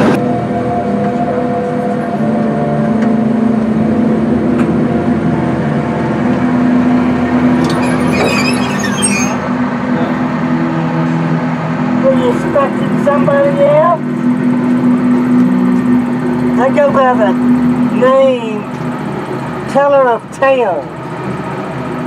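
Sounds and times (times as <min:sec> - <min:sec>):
ride train hum and rumble: 0:00.0 - 0:22.0.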